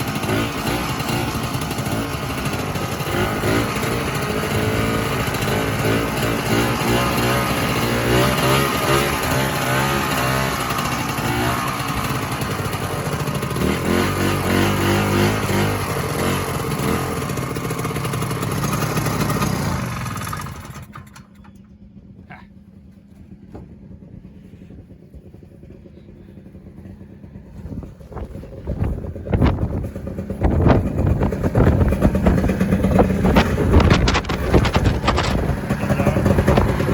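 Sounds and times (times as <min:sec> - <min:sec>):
snowmobile engine under throttle: 0:00.0 - 0:21.3, 0:22.0 - 0:36.9.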